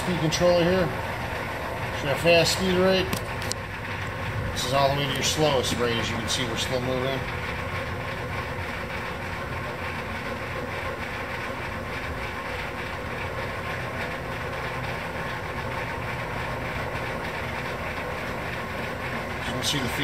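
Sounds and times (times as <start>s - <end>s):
lathe running hum: 0.0s - 20.0s.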